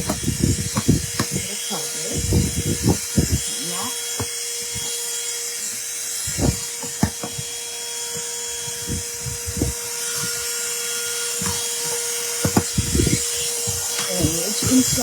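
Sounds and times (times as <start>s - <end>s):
handheld vacuum cleaner whining: 0.0s - 15.0s.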